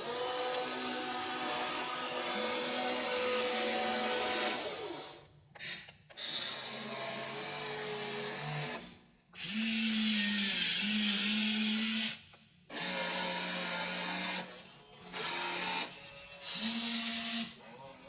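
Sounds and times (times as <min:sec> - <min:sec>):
small electric motors whirring: 0:00.0 - 0:18.0.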